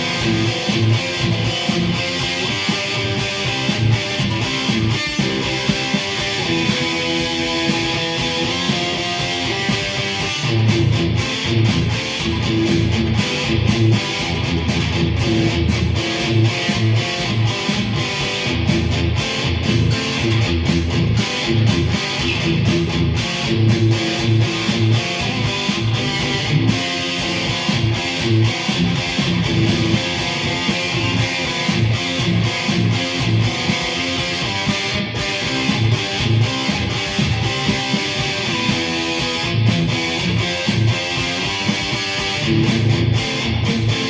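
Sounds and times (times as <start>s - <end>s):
overdriven electric guitar: 0.0s - 44.0s.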